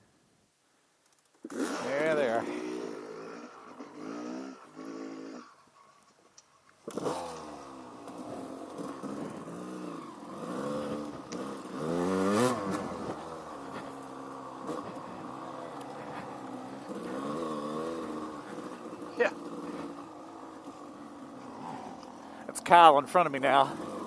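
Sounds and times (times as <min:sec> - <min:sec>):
dirt bike engine revving: 0:01.4 - 0:06.2, 0:06.8 - 0:24.0.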